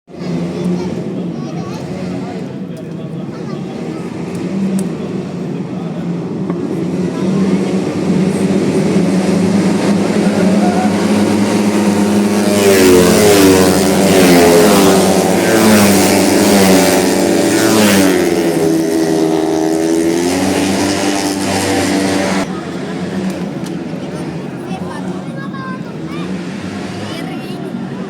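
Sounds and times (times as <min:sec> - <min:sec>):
scooter engines revving: 0:00.1 - 0:28.0.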